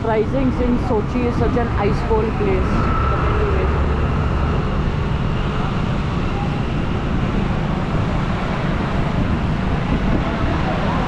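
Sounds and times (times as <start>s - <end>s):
road noise from moving bike: 0.0s - 11.0s
wind rumble: 0.0s - 11.0s.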